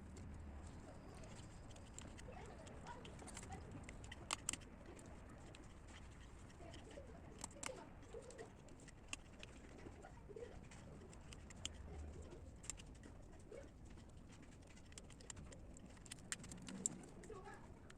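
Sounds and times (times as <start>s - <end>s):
faint clicks and taps: 0.0s - 17.9s.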